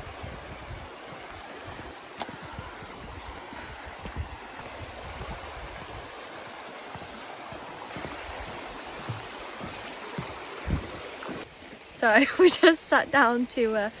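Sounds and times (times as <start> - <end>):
wind buffeting microphone: 0.0 - 11.4
river water flowing: 0.0 - 14.0.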